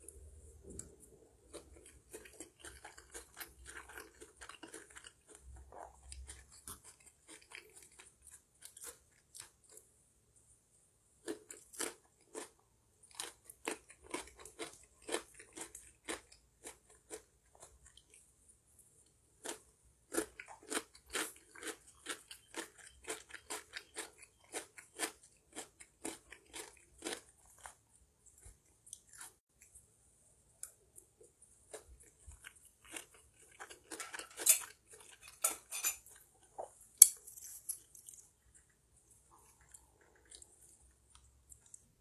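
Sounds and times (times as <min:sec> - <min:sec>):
person chewing noodles: 0:00.0 - 0:09.9, 0:11.2 - 0:18.2, 0:19.4 - 0:29.7, 0:30.6 - 0:35.4, 0:38.0 - 0:42.0.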